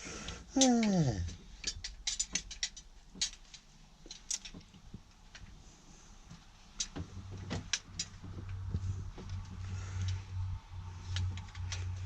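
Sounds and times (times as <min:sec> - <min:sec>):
copper pipe and tools clicking: 0:00.0 - 0:05.6, 0:06.3 - 0:10.3, 0:11.0 - 0:12.0
low steady hum: 0:00.0 - 0:12.0.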